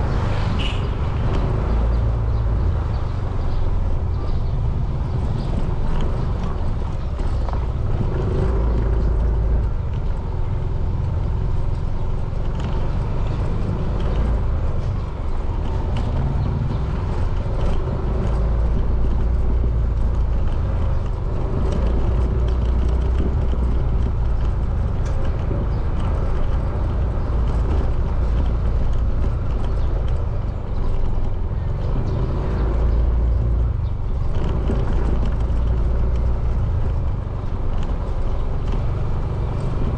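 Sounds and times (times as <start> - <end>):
wind rumble on microphone: 0.0 - 39.9
motorcycle engine running: 1.4 - 39.9.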